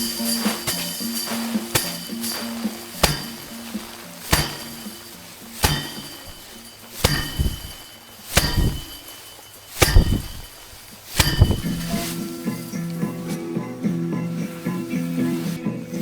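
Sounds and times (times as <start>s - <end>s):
rice stalks whacking a tub: 0.0s - 16.0s
straw and grain rustling: 0.0s - 16.0s.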